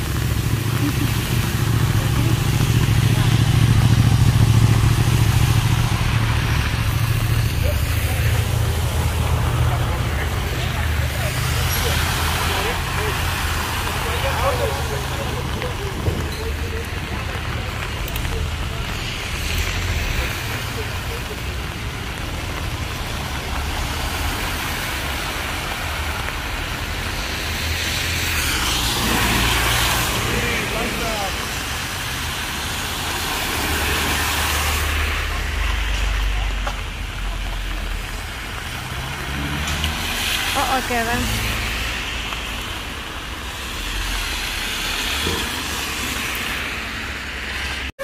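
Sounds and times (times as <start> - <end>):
heavy rain: 0.0 - 48.0
tyres hissing through water: 0.0 - 48.0.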